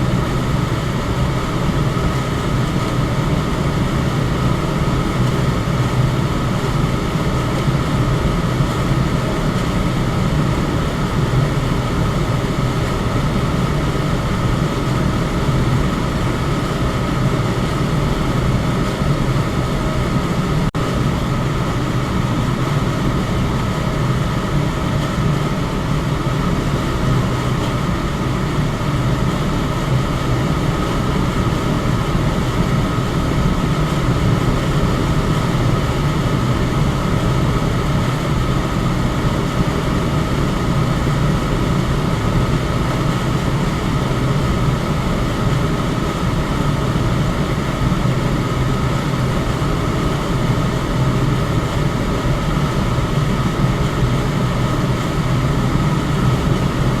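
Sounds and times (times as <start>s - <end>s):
electric fan running: 0.0s - 57.0s.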